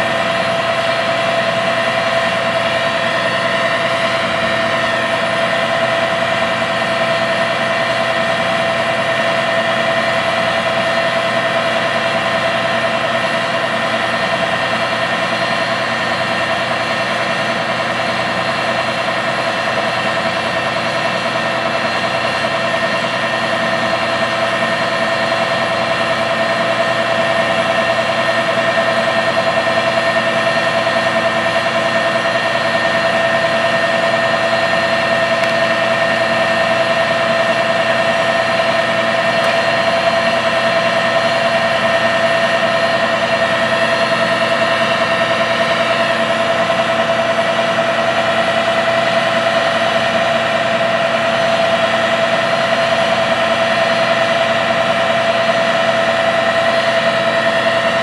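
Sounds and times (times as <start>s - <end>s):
constant high whine: 0.0s - 58.0s
tractor diesel engine running: 0.0s - 58.0s.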